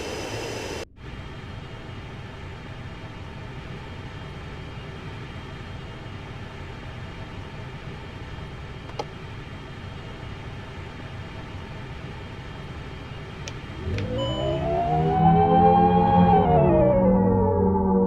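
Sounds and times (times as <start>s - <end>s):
airplane cabin rumble and hiss: 0.0s - 15.1s
faint steady tones: 0.0s - 18.0s.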